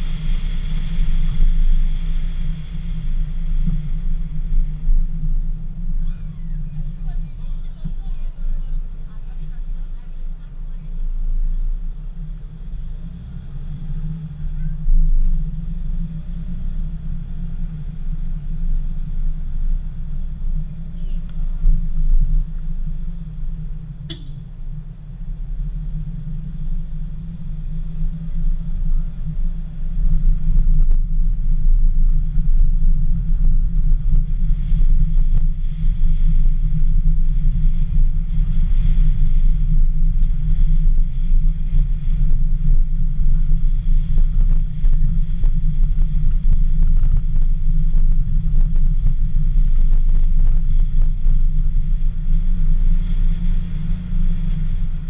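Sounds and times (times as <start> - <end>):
car running noise: 0.0 - 55.0
wind buffeting microphone: 0.0 - 55.0.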